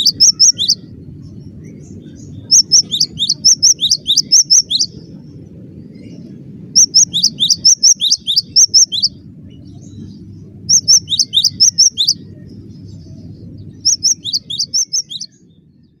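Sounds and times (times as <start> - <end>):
bird singing rapid high notes: 0.0 - 0.9, 1.7 - 5.0, 6.8 - 15.4
steady low hum: 0.0 - 16.0.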